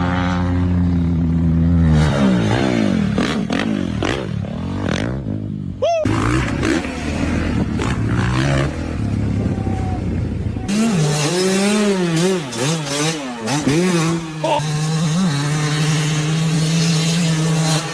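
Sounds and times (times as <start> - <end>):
dirt bike engine revving: 0.0 - 17.9
dirt bike engines rumbling: 0.0 - 17.9.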